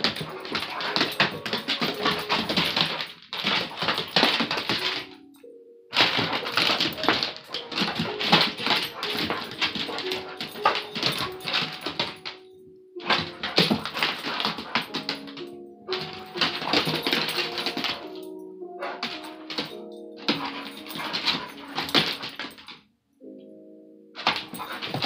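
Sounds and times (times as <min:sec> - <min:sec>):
dogs scuffling on wooden floor: 0:00.0 - 0:05.3, 0:05.9 - 0:22.8, 0:24.2 - 0:25.0.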